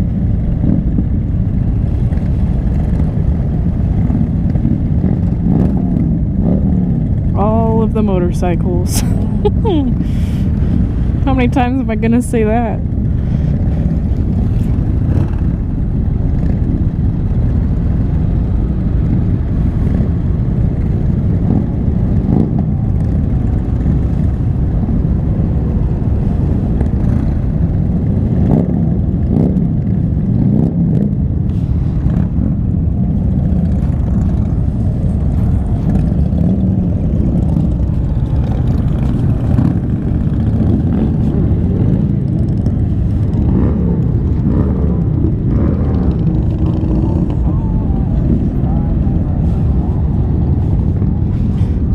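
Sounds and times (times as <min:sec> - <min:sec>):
motorcycle engines: 0:00.0 - 0:51.9
wind rush: 0:00.0 - 0:51.9.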